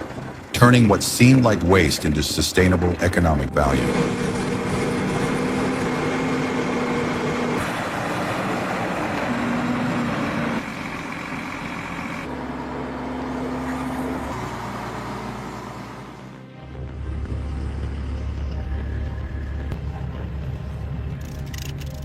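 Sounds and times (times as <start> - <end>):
heavy diesel machinery droning: 0.0 - 22.0.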